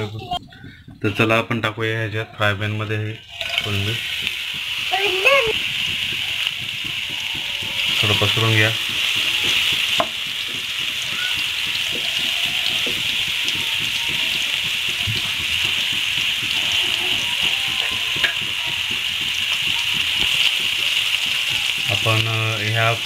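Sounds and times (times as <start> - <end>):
prawns sizzling in hot oil: 3.0 - 23.0
spatula tapping pan: 3.4 - 23.0.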